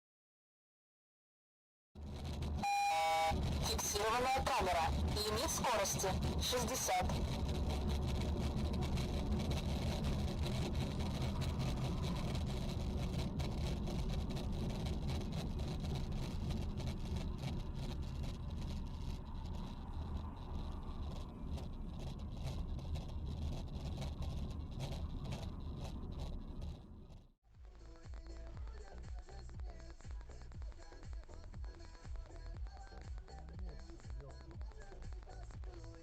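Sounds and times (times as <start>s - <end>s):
car engine and road noise: 2.0s - 36.0s.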